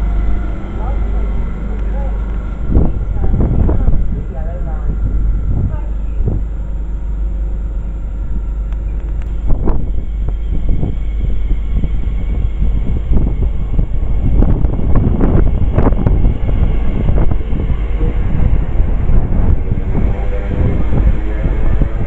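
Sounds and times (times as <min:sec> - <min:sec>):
pitched hum: 0:00.0 - 0:22.0
train rumble and clatter: 0:00.0 - 0:22.0
wind buffeting microphone: 0:00.0 - 0:22.0.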